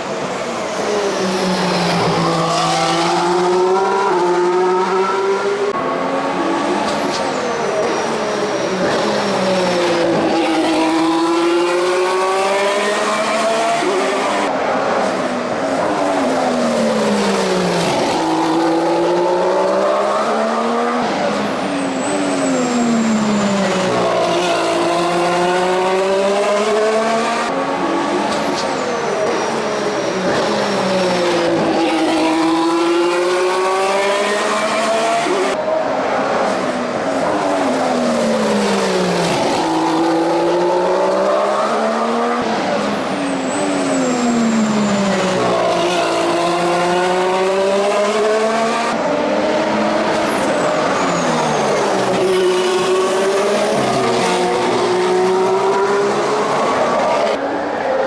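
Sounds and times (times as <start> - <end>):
racing car engine accelerating: 0.3 - 58.0.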